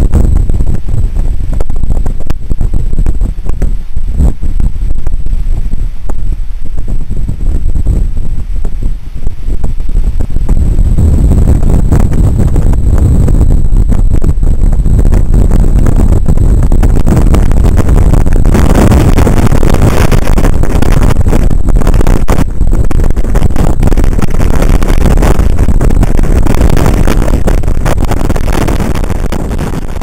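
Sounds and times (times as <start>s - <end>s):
strong wind buffeting microphone: 0.0s - 30.0s.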